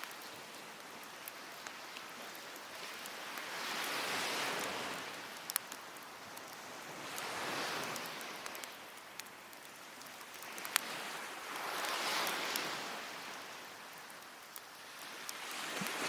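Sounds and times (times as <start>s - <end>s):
sea waves washing onto beach: 0.0s - 16.0s
wood fire crackling: 0.0s - 16.0s.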